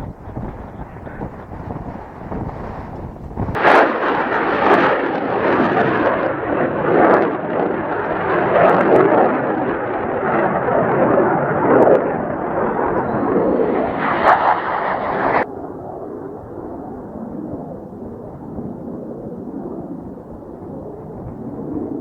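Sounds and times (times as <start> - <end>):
jet aircraft engine roar: 0.0 - 22.0.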